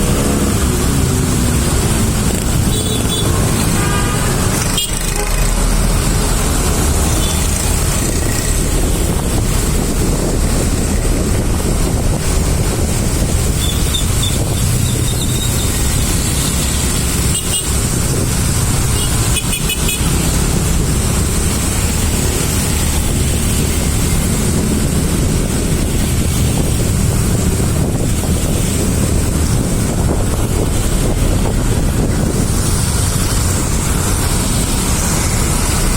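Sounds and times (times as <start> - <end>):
traffic rumble of engines and tyres: 0.0 - 35.9.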